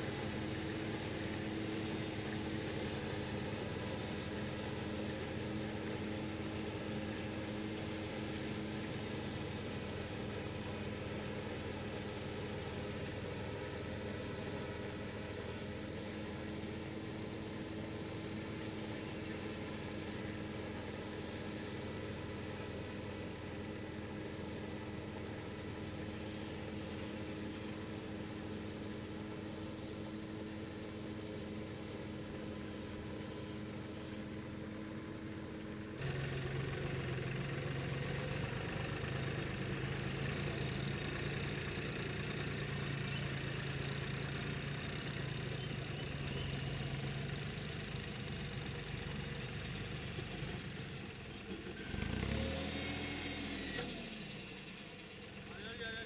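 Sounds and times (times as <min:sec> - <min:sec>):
tractor engines running: 0:00.0 - 0:56.0.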